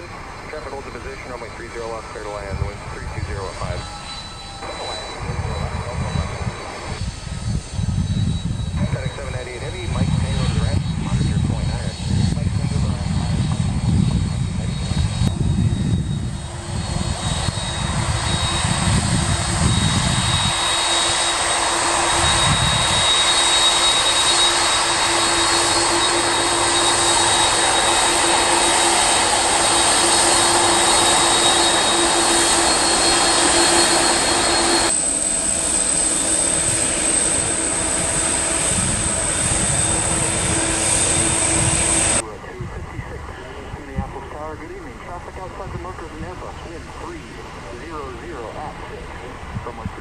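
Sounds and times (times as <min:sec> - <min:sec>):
jet engines taxiing: 0:00.0 - 0:50.0
low rumbling: 0:00.0 - 0:50.0.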